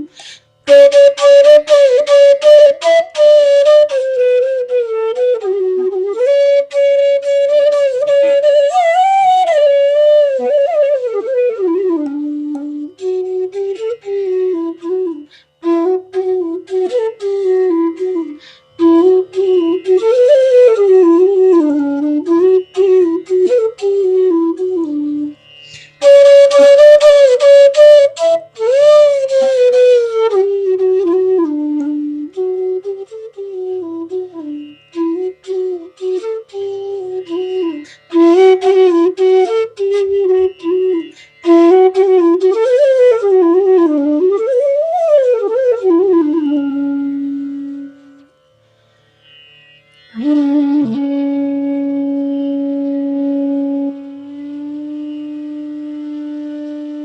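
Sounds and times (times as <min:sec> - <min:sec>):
bamboo flute melody: 0:00.0 - 0:57.0.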